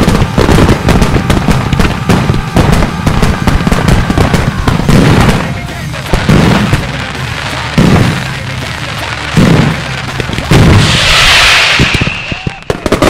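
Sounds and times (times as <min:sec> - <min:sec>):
firework booms: 0:00.0 - 0:13.0
firework rushing hiss: 0:00.0 - 0:13.0.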